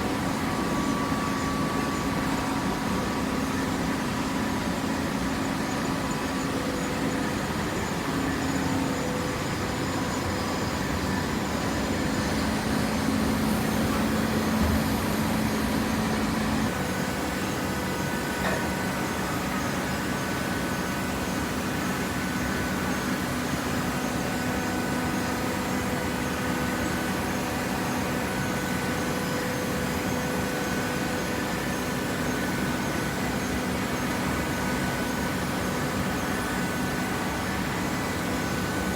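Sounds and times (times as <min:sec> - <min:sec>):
hydraulic motor and pump humming: 0:00.0 - 0:38.9.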